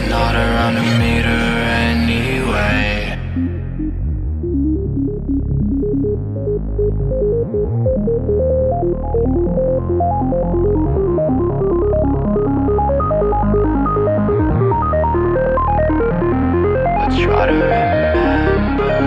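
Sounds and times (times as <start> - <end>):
electronic music with synthesizer: 0.0 - 19.0.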